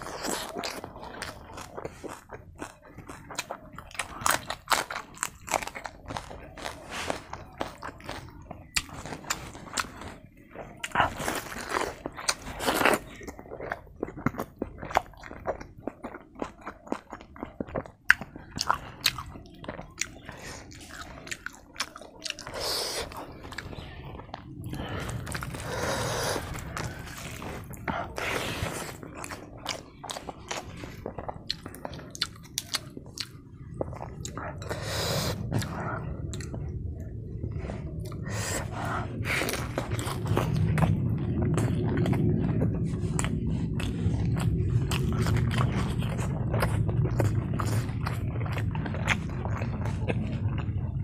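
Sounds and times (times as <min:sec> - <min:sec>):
cabbage crunching being chewed: 0:00.0 - 0:51.0.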